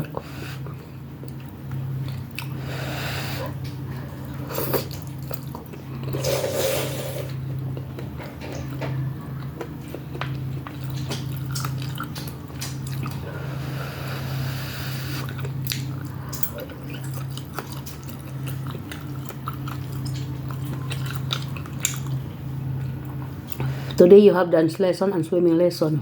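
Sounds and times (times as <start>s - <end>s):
wet chewing: 0.5s - 2.6s, 3.4s - 13.7s, 14.3s - 24.0s.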